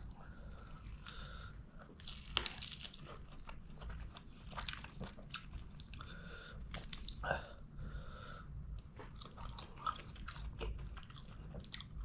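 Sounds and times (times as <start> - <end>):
close-miked wet chewing: 0.0 - 7.3, 8.8 - 12.0.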